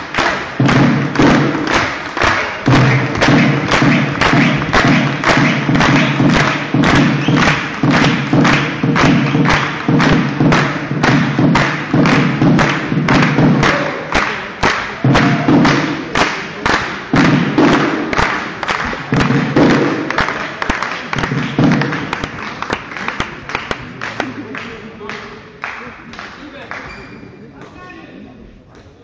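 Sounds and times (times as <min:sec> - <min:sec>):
spectators beating a rhythm: 0:00.0 - 0:26.9.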